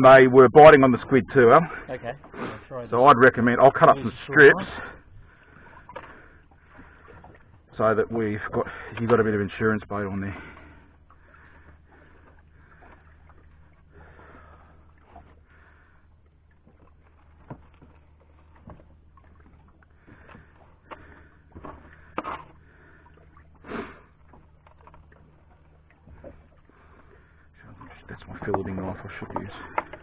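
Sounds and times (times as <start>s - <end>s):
light water noise: 0.0s - 30.0s.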